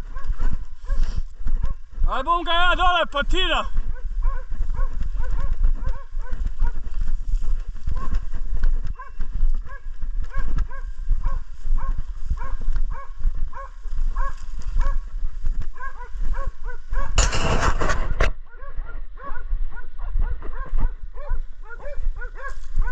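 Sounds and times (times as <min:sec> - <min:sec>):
dogs barking rapidly: 0:00.0 - 0:01.9, 0:03.8 - 0:07.0, 0:07.8 - 0:22.9.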